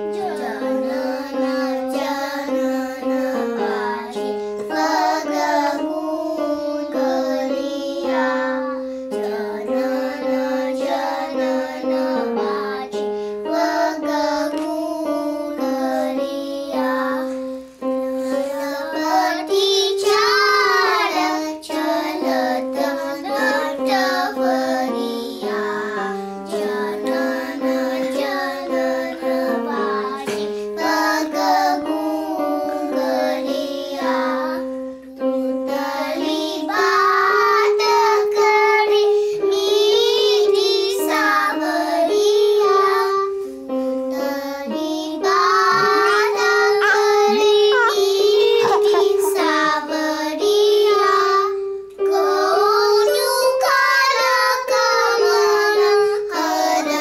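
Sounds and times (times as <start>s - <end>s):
children singing classical vocal: 0.0s - 57.0s.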